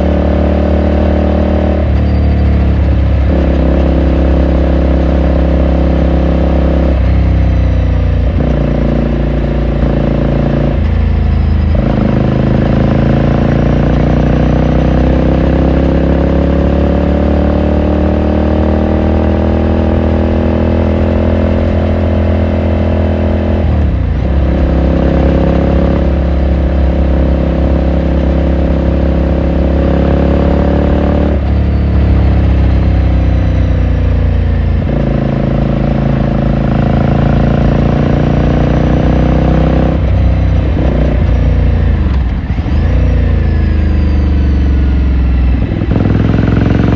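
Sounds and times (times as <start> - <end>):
motorcycle engine and exhaust: 0.0 - 46.9.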